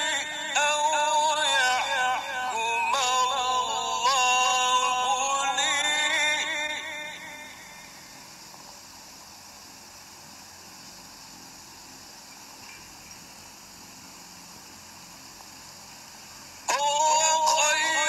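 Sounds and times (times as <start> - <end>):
faint microphone hiss: 0.0 - 18.0.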